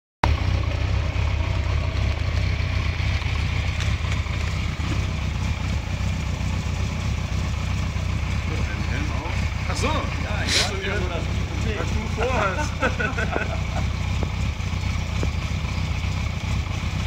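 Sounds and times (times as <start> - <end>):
motorcycle engine idling: 0.2 - 17.0.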